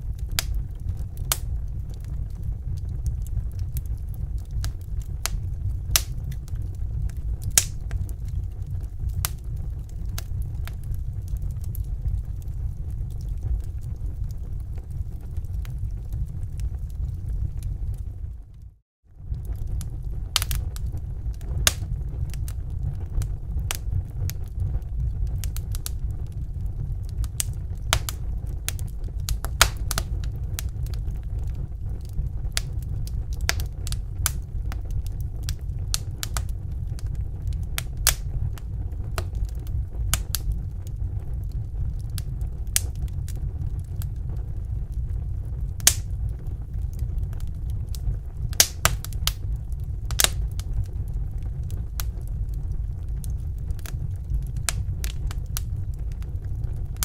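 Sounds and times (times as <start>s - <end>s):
fire low rumble: 0.0s - 57.0s
wood fire crackling and popping: 0.0s - 57.0s.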